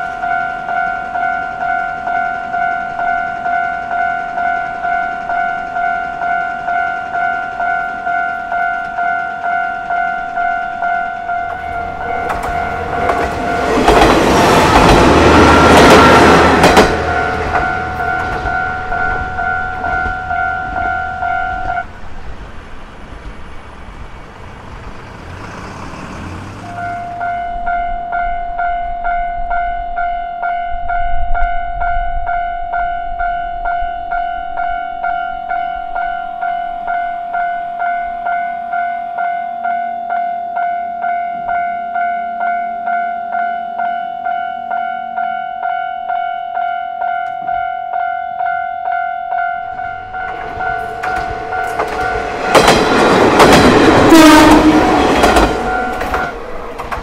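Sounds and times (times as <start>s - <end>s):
level crossing bell ringing: 0.0s - 21.9s, 26.7s - 56.4s
train passing: 0.0s - 57.0s.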